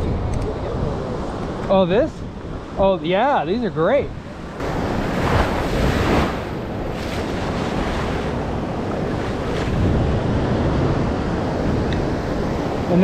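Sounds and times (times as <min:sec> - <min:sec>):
wind buffeting microphone: 0:00.0 - 0:13.0
ocean surf breaking: 0:00.1 - 0:13.0.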